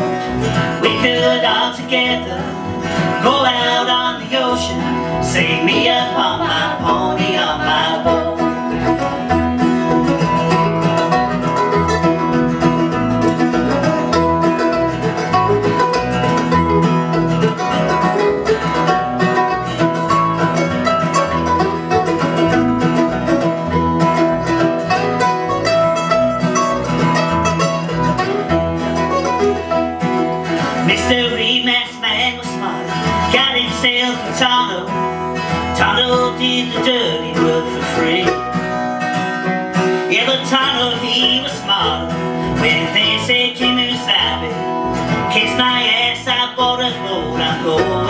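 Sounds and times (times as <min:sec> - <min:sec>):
strummed acoustic guitars: 0:00.0 - 0:48.0
upright bass: 0:00.0 - 0:48.0.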